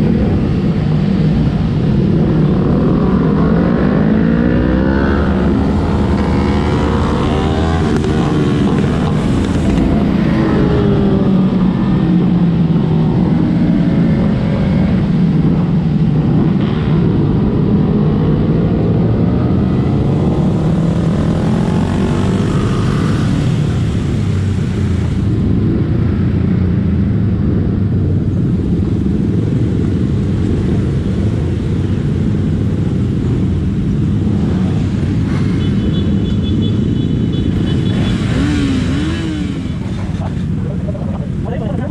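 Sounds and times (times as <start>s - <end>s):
motorcycle engines accelerating: 0.0s - 41.9s
wind and road noise: 0.0s - 41.9s.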